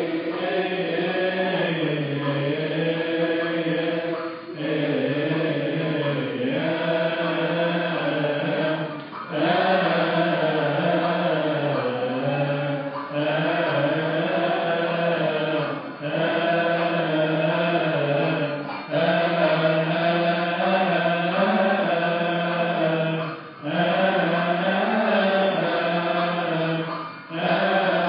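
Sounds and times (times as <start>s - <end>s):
many voices chanting a hymn: 0.0s - 28.0s.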